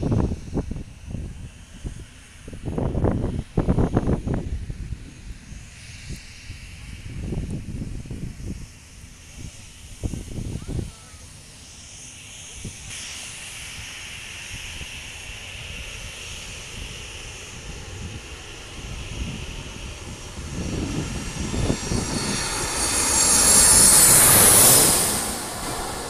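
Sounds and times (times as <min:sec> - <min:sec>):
high jet engine whine: 0:00.0 - 0:26.0
jet airliner passing low overhead: 0:00.0 - 0:26.0.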